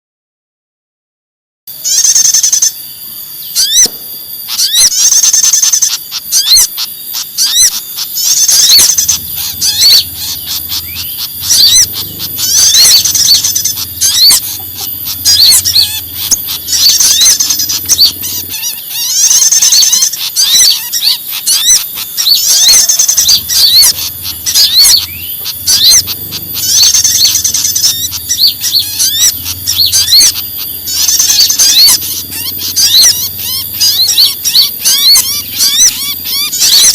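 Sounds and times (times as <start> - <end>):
songbirds distress chatter: 1.7 - 36.9.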